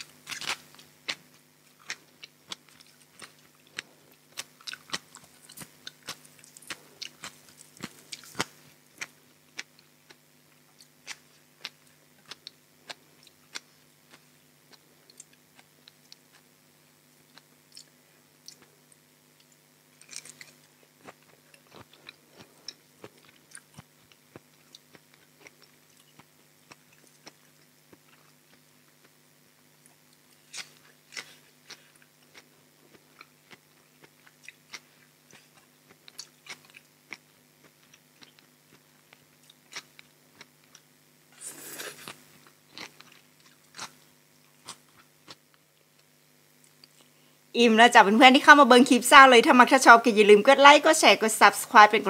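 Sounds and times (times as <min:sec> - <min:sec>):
person chewing food: 0:00.0 - 0:47.4.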